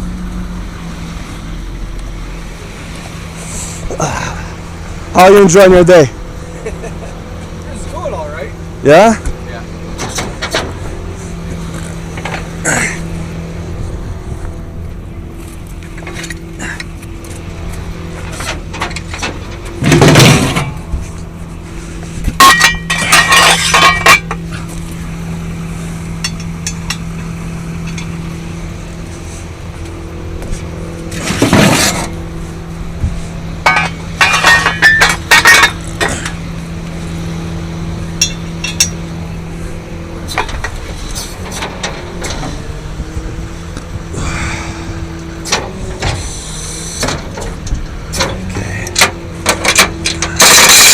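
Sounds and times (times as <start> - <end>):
tow truck engine running: 0.0 - 50.9
metal towing gear clanking: 5.2 - 13.3, 14.3 - 50.9.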